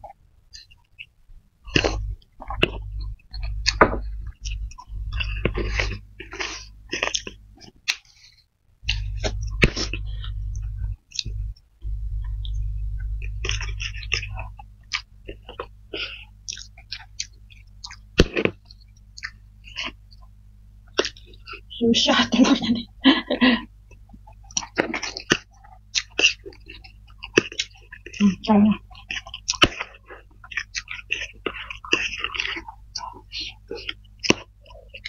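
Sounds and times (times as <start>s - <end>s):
wet chewing and slurping: 1.7s - 11.6s, 12.2s - 20.3s, 23.9s - 35.0s.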